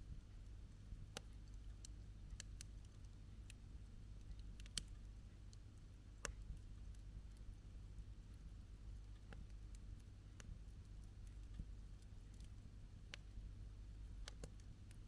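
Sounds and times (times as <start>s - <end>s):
low steady rumble: 0.0s - 15.0s
campfire crackling: 1.1s - 15.0s.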